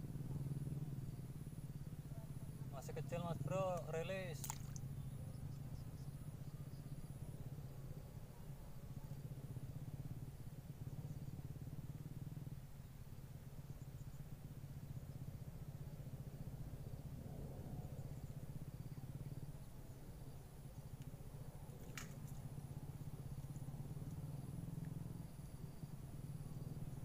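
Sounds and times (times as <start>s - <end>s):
low motor hum: 0.0s - 27.0s.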